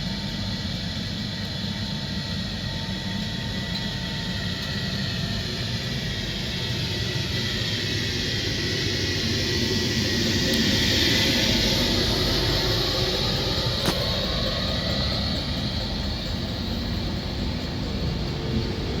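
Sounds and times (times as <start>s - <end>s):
train rumbling: 3.3s - 19.0s.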